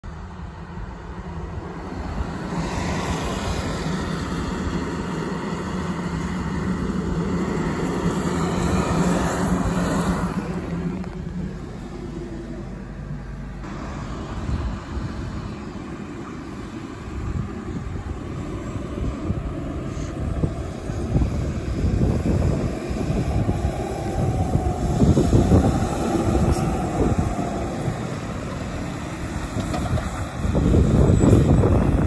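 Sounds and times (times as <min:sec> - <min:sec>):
vehicle engine hum: 0:00.0 - 0:32.0
tyres hissing on wet road: 0:00.2 - 0:32.0.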